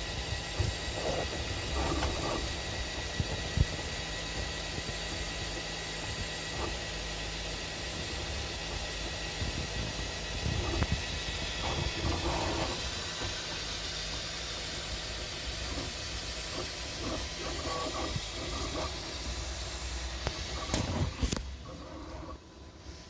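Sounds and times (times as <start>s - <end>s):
printer fan hiss and hum: 0.0s - 23.0s
stepper motor tones: 0.0s - 23.0s.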